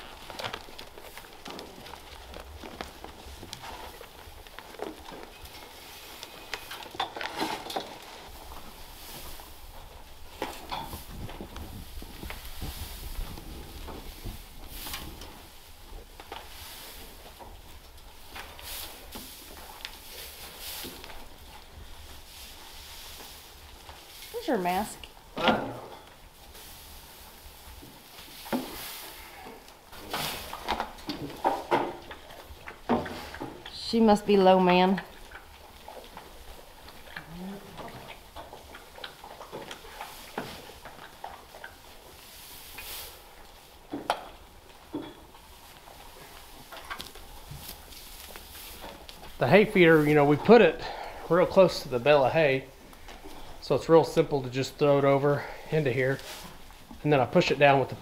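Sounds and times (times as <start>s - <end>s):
dry hay rustling: 0.0s - 25.4s, 26.0s - 33.3s, 38.1s - 58.0s.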